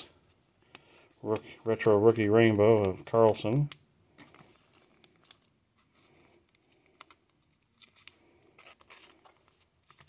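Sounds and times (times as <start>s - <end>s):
plastic card sleeve rustling: 0.2s - 10.0s.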